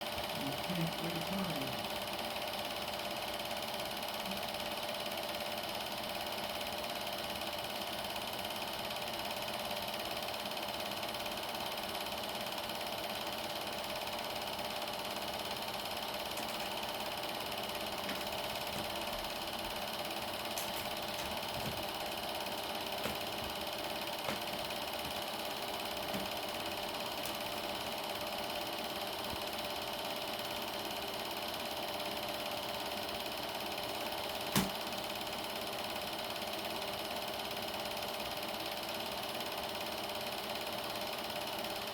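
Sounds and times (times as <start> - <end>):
film projector whirring: 0.0 - 41.9.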